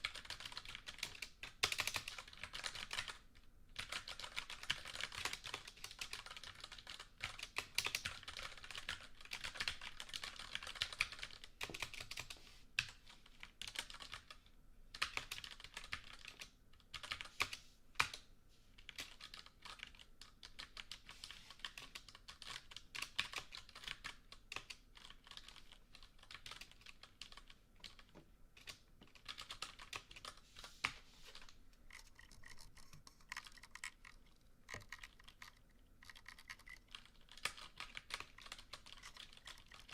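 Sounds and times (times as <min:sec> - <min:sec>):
computer keyboard typing: 0:00.0 - 0:18.2, 0:18.8 - 0:39.9.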